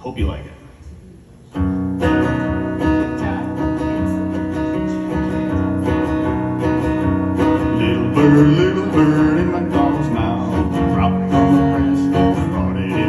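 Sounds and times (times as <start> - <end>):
acoustic guitar strumming: 1.5 - 13.0.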